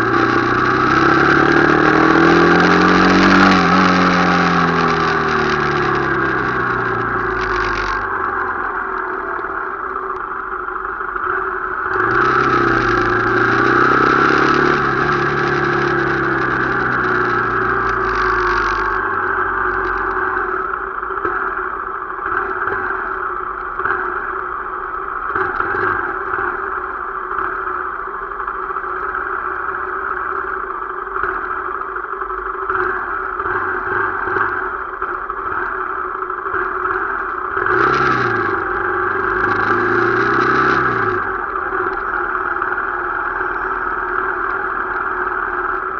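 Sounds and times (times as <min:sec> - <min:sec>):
deeper engine sound: 0:00.0 - 0:45.9
motorcycle engine running: 0:00.0 - 0:45.9.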